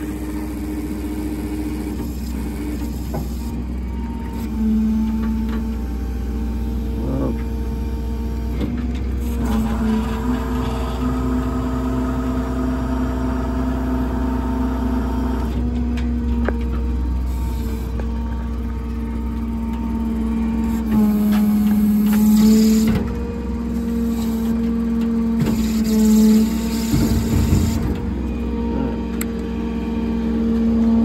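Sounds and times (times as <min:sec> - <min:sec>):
diesel engine running: 0:00.0 - 0:31.0
hydraulic crane whine: 0:00.0 - 0:31.0.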